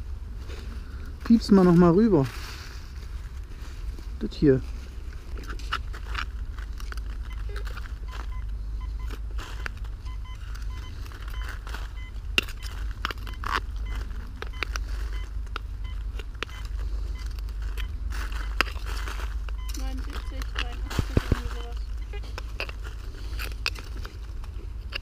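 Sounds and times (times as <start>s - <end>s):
rustling: 0.0s - 25.0s
steady low rumble: 0.0s - 25.0s.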